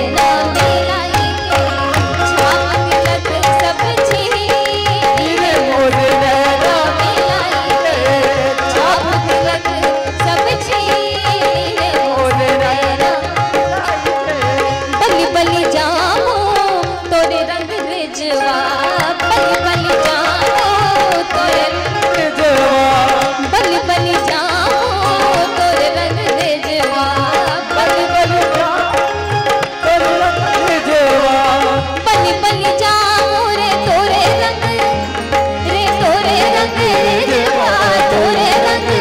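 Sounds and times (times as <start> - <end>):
harmonium held notes: 0.0 - 39.0
tabla rhythm: 0.0 - 39.0
woman singing: 0.0 - 39.0.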